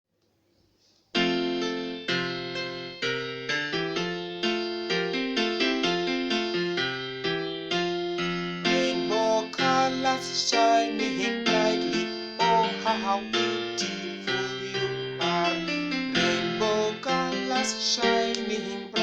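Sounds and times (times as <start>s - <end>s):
keyboard playing chords: 1.2s - 19.0s.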